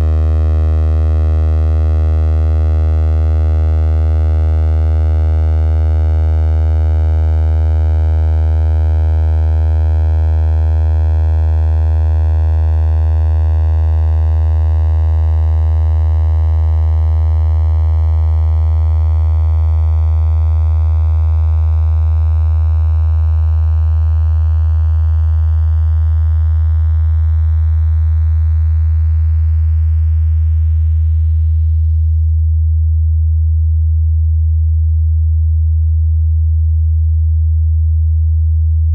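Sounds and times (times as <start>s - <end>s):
low synthesized sine tone: 0.0s - 38.9s.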